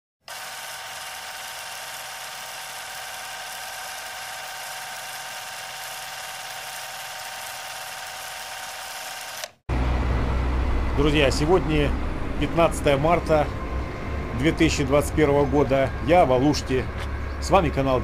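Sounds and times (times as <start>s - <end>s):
electric whir with high tones: 0.3s - 18.0s.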